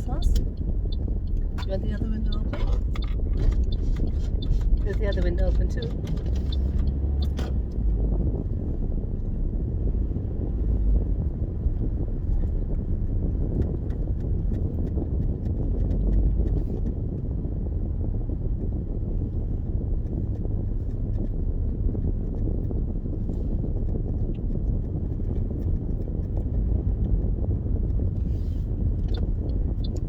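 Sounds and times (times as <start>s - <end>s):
car interior road rumble: 0.0s - 30.0s
wind through open windows: 0.0s - 30.0s.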